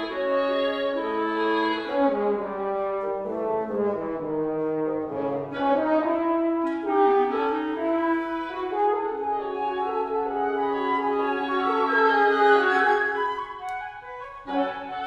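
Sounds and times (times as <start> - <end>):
woodwind quintet playing: 0.0 - 15.0.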